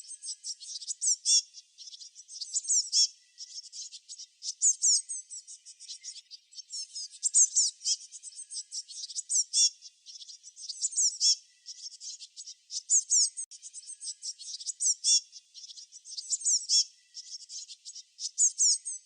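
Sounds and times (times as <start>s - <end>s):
small songbirds chirping: 0.0s - 19.0s.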